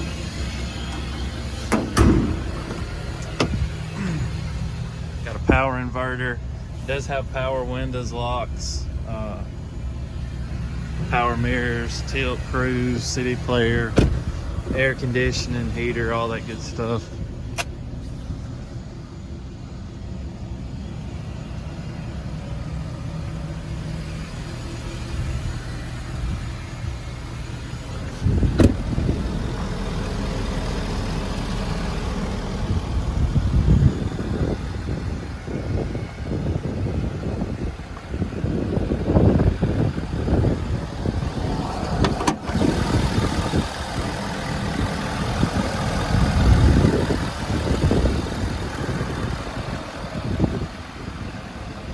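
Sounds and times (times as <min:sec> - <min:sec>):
diesel pickup engine starting and running: 0:00.0 - 0:51.9.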